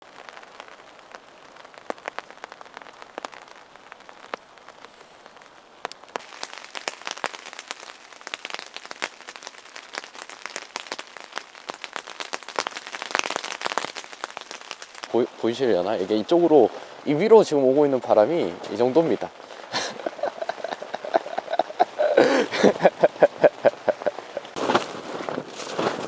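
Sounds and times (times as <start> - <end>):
rain hiss: 0.0 - 26.0
raindrops ticking: 0.6 - 26.0.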